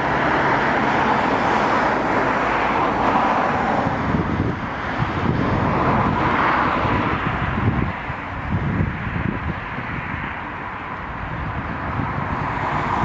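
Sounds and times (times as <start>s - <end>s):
passing road traffic hum: 0.0s - 13.0s
wind rumble on microphone: 0.0s - 13.0s.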